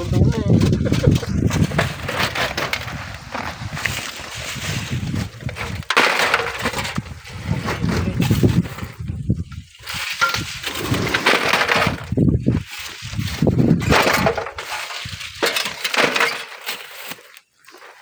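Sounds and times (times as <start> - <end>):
wind rumbling on microphone: 0.0 - 15.4
sand and stones crunching: 0.0 - 18.0.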